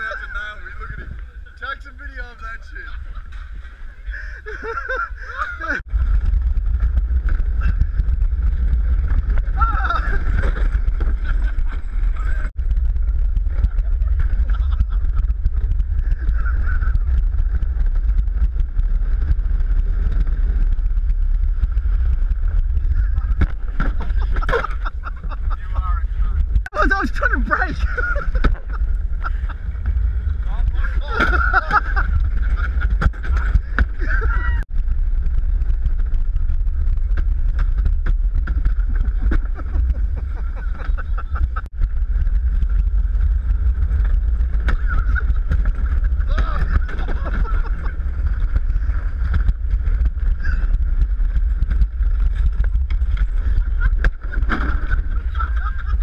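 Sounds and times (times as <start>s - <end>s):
cart wheels rumbling on concrete: 0.0s - 56.0s
wind buffeting microphone: 0.0s - 56.0s.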